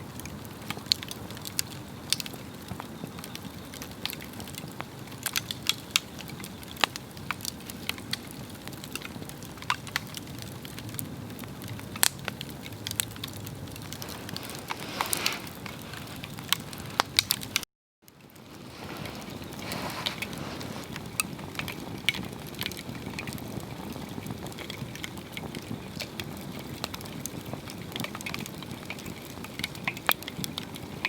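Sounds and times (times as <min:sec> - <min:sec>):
low rush of flame: 0:00.0 - 0:17.6, 0:18.2 - 0:31.0
wood crackling and popping: 0:00.0 - 0:31.0.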